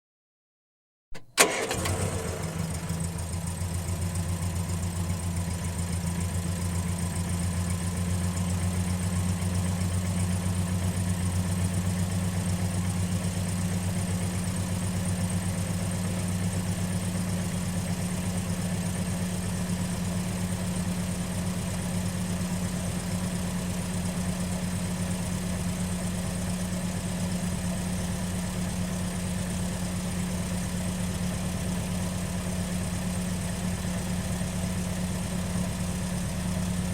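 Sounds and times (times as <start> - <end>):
car engine idling: 1.4 - 36.9.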